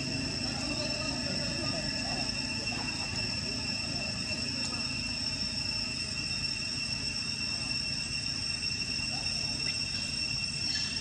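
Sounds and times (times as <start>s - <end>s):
high-pitched insect drone: 0.0s - 11.0s
low continuous rumble: 0.0s - 11.0s.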